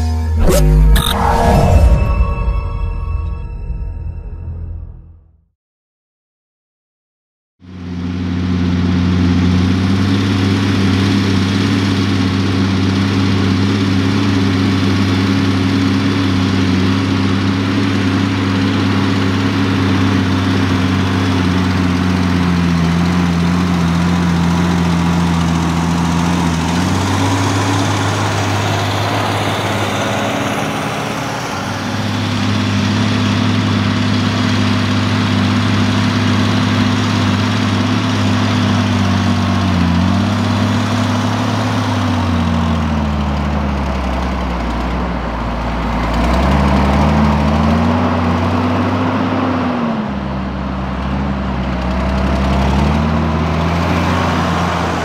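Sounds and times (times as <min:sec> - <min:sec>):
tractor diesel engine under load: 0:07.7 - 0:55.0.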